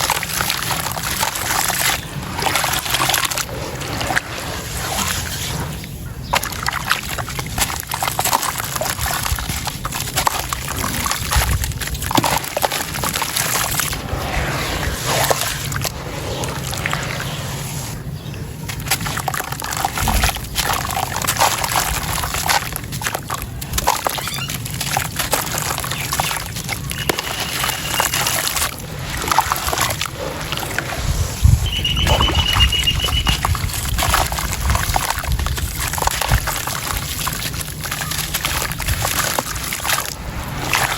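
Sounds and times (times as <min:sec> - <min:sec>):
sand and stone crumbling: 0:00.0 - 0:40.9
water sloshing and pouring: 0:00.0 - 0:40.9.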